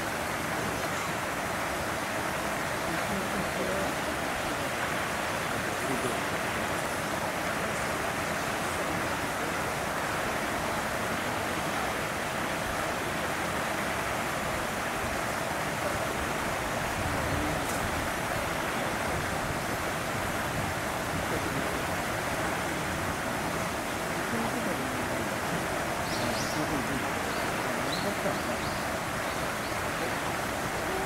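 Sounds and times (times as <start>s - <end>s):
steady rushing hiss: 0.0s - 31.0s.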